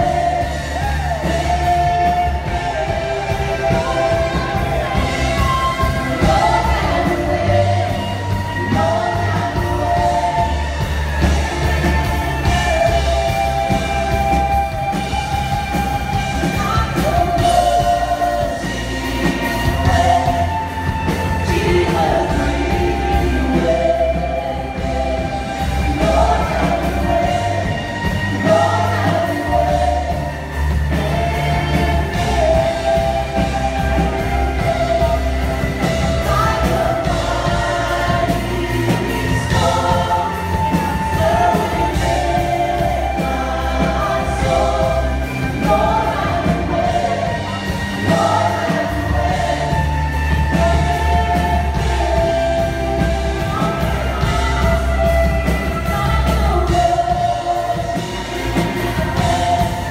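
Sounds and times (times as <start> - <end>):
bass: 0.0 - 59.9
electric guitar: 0.0 - 59.9
keyboard: 0.0 - 59.9
live band performing: 0.0 - 59.9
singers singing: 0.0 - 59.9.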